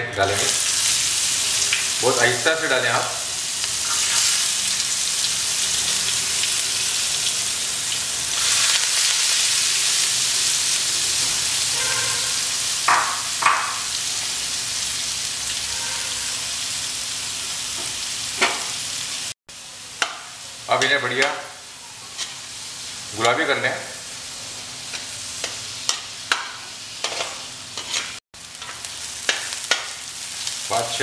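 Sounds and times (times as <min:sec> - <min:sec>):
onions sizzling in hot oil: 0:00.2 - 0:31.0.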